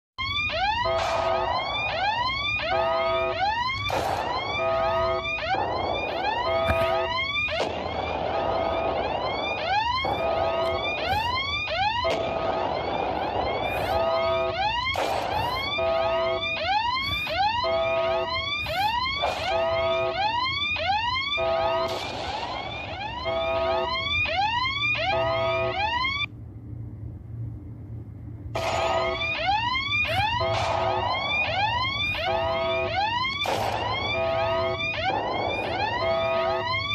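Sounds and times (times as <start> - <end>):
whooping siren: 0.2 - 26.3, 28.6 - 36.9
low hum: 0.2 - 36.9.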